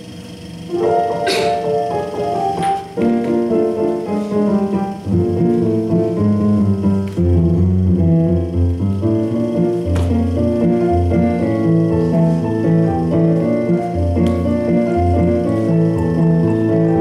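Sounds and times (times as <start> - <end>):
piano music: 0.7 - 17.0.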